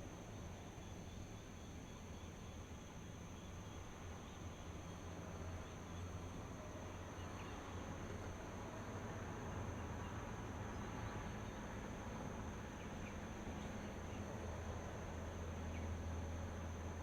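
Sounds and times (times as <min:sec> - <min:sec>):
crickets trilling: 0:00.0 - 0:17.0
faint hiss: 0:00.0 - 0:17.0.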